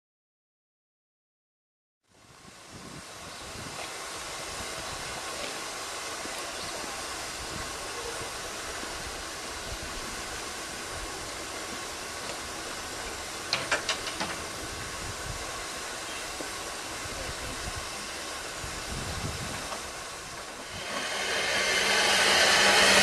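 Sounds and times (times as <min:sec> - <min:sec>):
loud steam hiss: 0:02.1 - 0:23.0.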